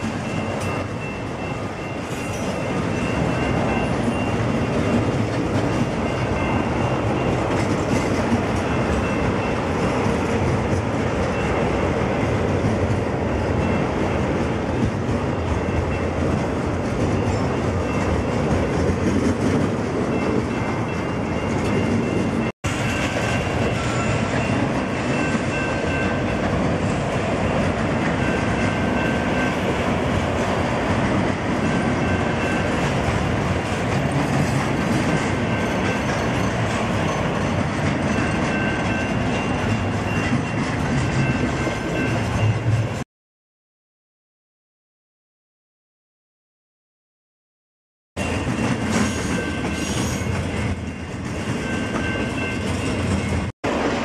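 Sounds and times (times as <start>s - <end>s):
freight train wheels rumbling on rail: 0.0s - 43.0s, 48.2s - 54.0s.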